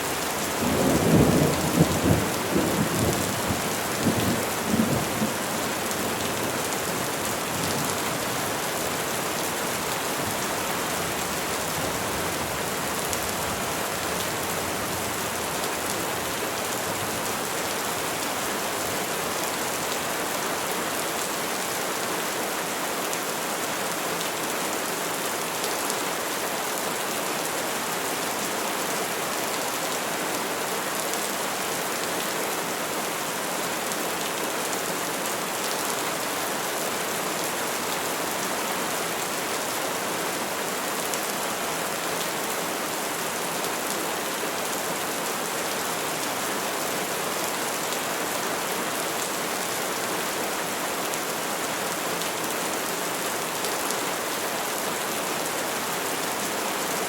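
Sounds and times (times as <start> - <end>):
rain falling on trees: 0.0 - 57.0.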